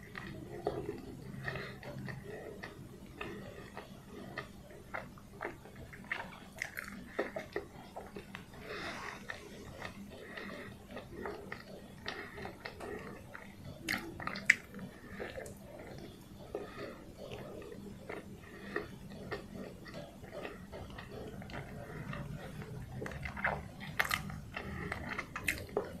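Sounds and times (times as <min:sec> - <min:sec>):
chewing with wet mouth clicks: 0:00.0 - 0:26.0.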